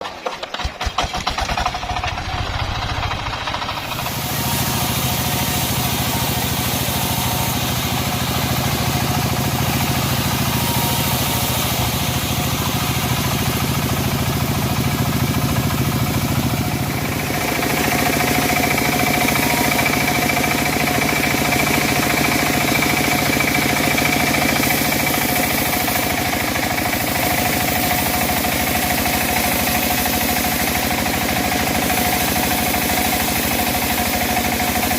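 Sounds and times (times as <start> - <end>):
sawmill engine running: 0.0 - 34.9
steady higher whine: 2.0 - 34.9.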